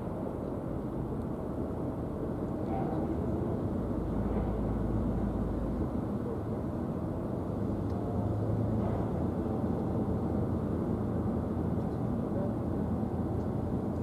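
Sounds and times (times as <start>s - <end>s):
ferry engine low rumble: 0.0s - 14.0s.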